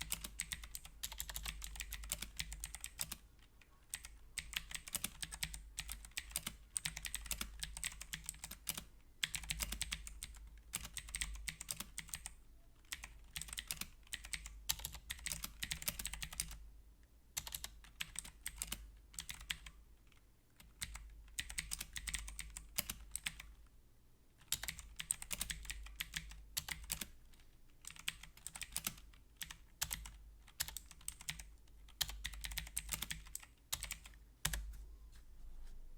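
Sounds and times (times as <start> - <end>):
mechanical keyboard typing: 0.0 - 16.6, 17.4 - 19.7, 20.6 - 23.5, 24.4 - 27.1, 27.8 - 34.6.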